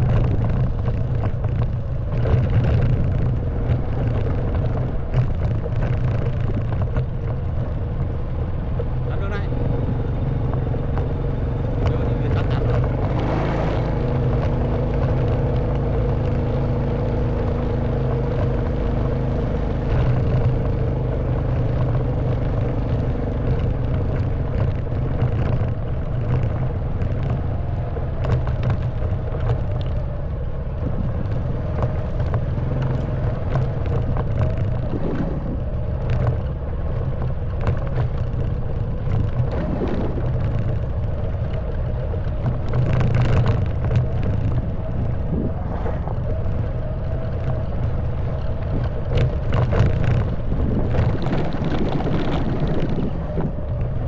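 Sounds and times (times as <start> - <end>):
motorbike engine running: 0.0 - 54.0.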